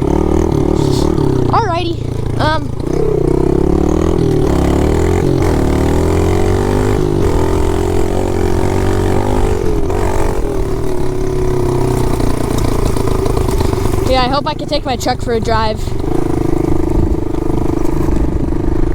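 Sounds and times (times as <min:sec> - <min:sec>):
pit bike engine revving: 0:00.0 - 0:18.9.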